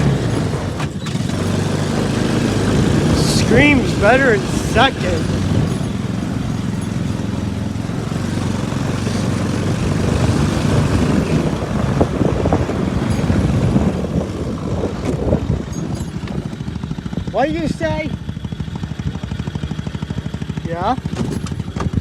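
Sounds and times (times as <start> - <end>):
car engine under load: 0.0 - 22.0.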